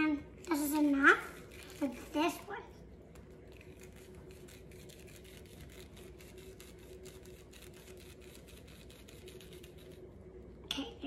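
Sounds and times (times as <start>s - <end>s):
steady faint hum: 0.0s - 11.0s.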